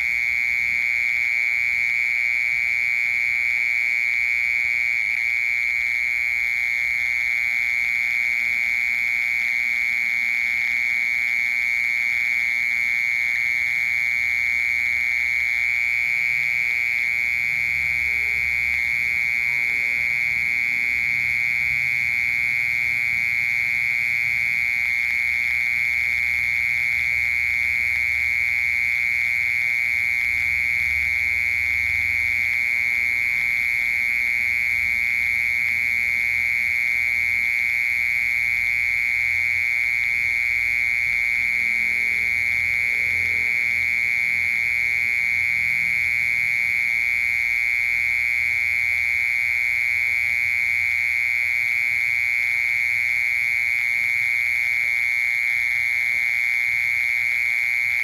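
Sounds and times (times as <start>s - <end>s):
cricket trilling: 0.0s - 58.0s.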